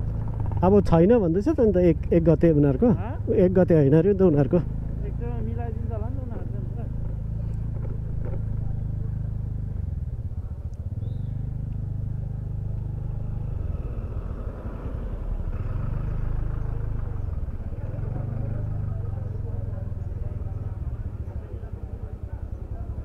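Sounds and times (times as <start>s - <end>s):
motorcycle engine and road rumble: 0.0s - 23.0s.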